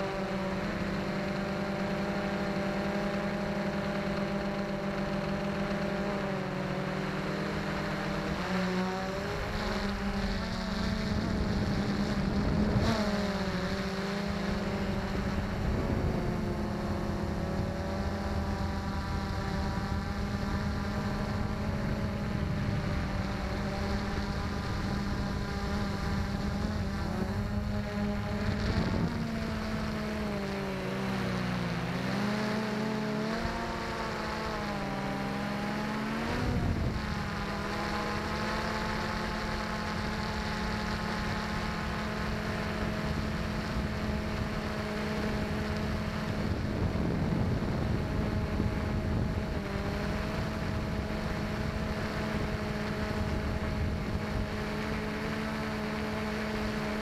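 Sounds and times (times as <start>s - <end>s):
drone motors humming: 0.0s - 57.0s.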